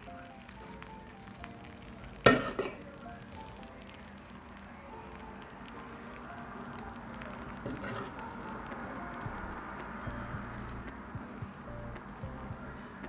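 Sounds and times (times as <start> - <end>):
soft background music: 0.0 - 13.0
syrup crackling on hot pastry: 0.0 - 13.0.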